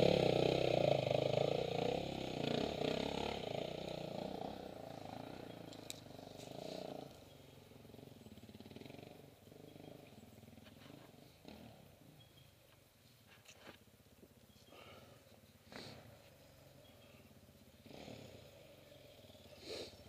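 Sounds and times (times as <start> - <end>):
motorcycle engine idling: 0.0 - 12.9, 14.3 - 20.0.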